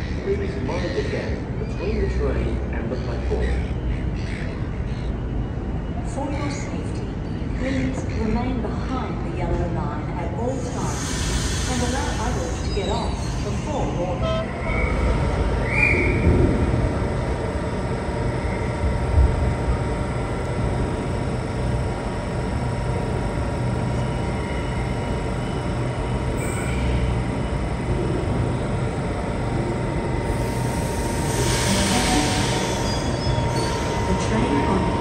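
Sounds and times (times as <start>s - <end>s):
train equipment humming: 0.0s - 35.0s.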